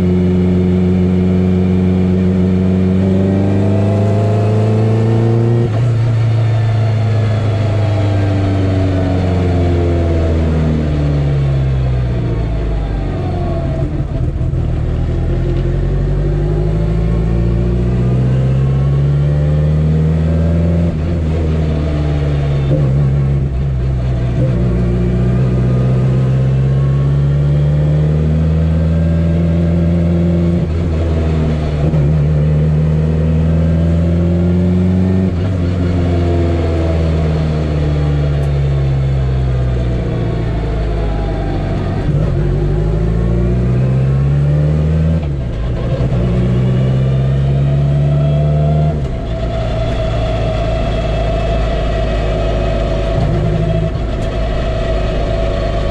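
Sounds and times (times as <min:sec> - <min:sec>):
turbocharged car engine: 0:00.0 - 0:55.9.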